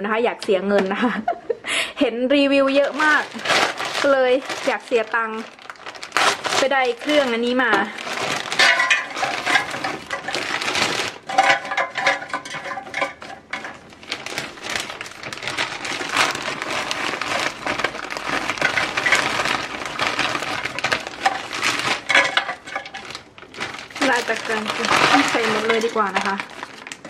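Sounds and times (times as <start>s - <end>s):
plastic bag crinkling: 2.6s - 27.0s
hand stirring fries: 2.7s - 27.0s
fries clattering into basket: 2.8s - 27.0s.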